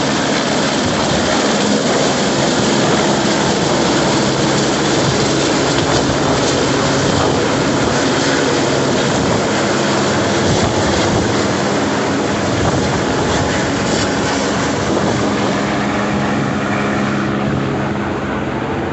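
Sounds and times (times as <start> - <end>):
helicopter rotor and turbine: 0.0 - 18.9.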